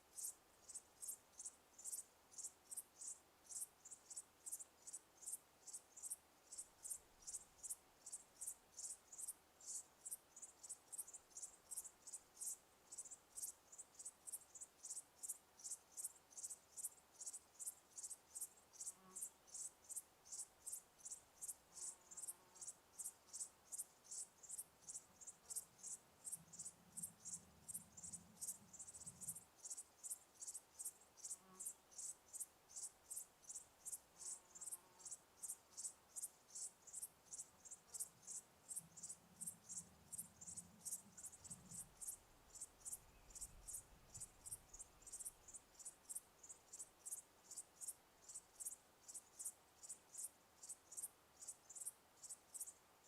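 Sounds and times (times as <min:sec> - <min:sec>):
crickets chirping: 0:00.0 - 0:52.8.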